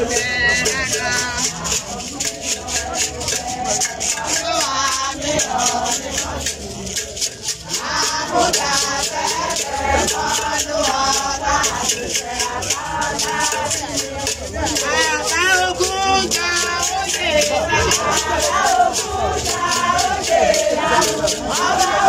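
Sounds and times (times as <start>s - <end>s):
rattle shaken in fast beat: 0.0s - 22.0s
women singing together: 0.0s - 22.0s.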